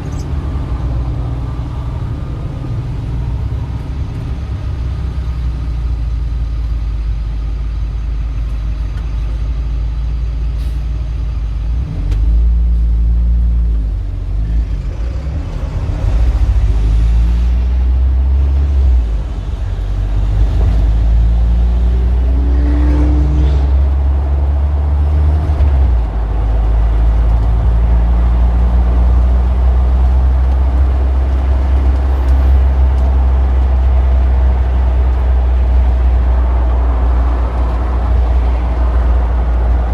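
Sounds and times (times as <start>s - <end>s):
cars driving by: 0.0s - 6.9s, 10.5s - 39.9s
low traffic rumble: 0.0s - 39.9s.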